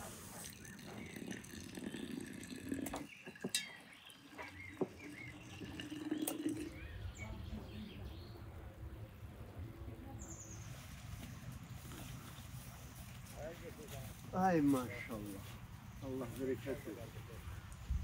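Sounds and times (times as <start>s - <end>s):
small birds chirping: 0.4s - 18.0s.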